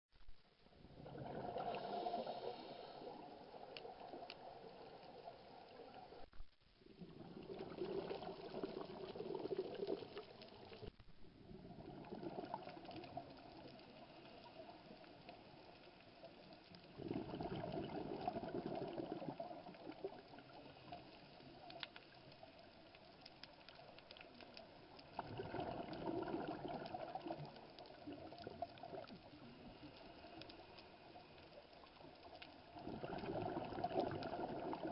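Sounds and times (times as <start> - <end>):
underwater bubbles gurgling: 0.6 - 34.9.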